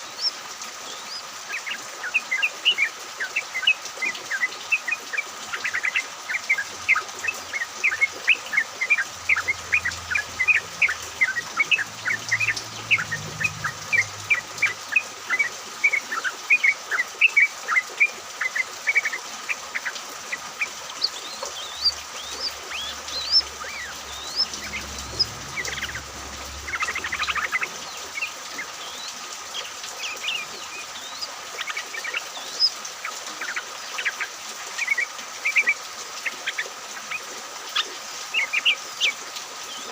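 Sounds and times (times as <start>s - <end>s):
bulbuls chirping: 0.0s - 39.9s.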